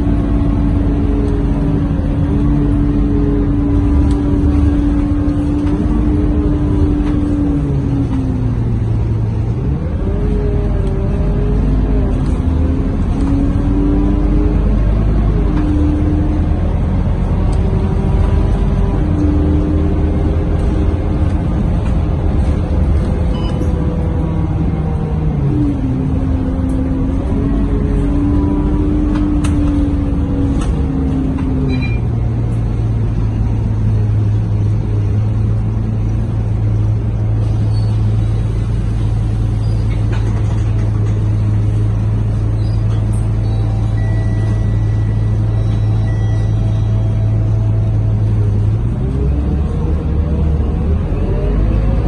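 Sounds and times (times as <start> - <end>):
bus diesel engine running: 0.0 - 52.0.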